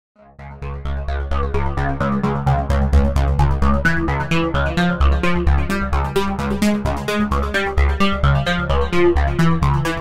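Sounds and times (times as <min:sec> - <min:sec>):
electronic music with pulsing notes: 0:00.2 - 0:10.0.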